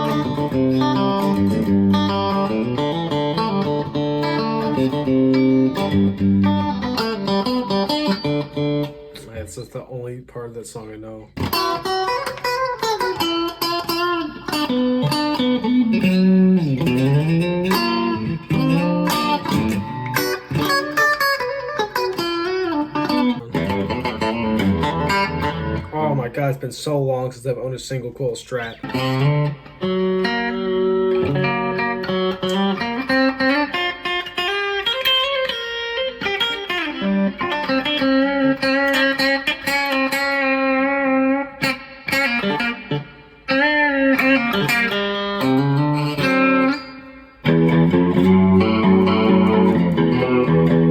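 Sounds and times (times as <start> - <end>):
clean electric guitar notes: 0.0 - 9.2, 11.4 - 26.0, 28.8 - 50.9.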